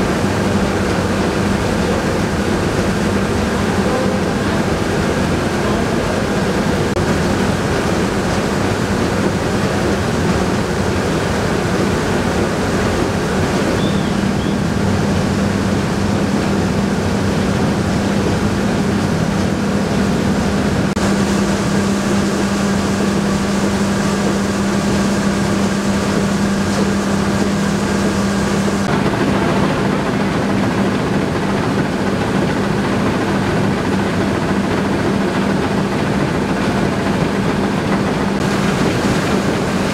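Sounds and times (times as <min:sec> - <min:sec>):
low machinery hum: 0:00.0 - 0:39.9
mill machinery rushing: 0:00.0 - 0:39.9.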